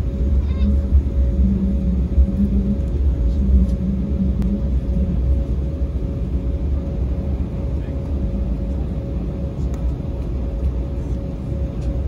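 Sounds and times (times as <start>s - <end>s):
faint steady whine: 0.0s - 12.0s
jet engine and wheels rumble: 0.0s - 12.0s.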